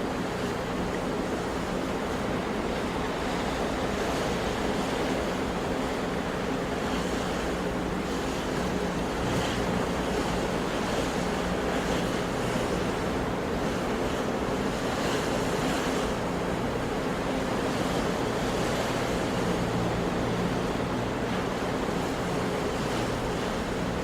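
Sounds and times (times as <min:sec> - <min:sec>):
sea surf washing: 0:00.0 - 0:24.0.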